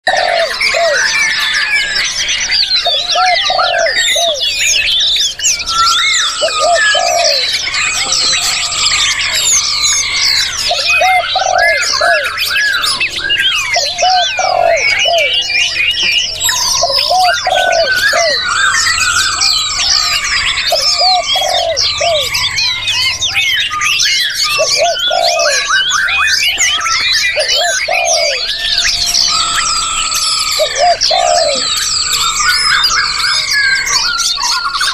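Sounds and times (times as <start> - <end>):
songbirds chorus singing: 0.0 - 34.9
low bird call notes: 0.1 - 34.9.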